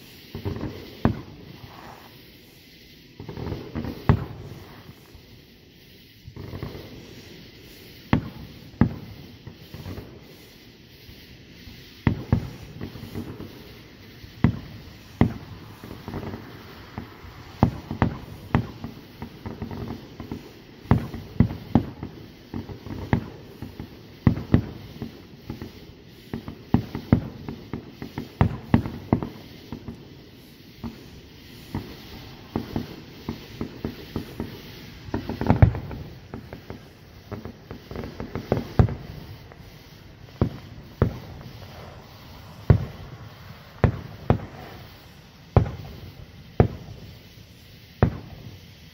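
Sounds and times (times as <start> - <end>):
fireworks booming and cracking: 0.0 - 48.9.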